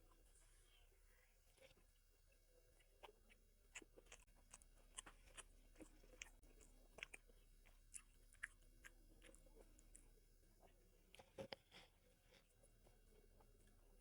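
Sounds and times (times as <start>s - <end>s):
faint chewing of food: 0.0s - 14.0s.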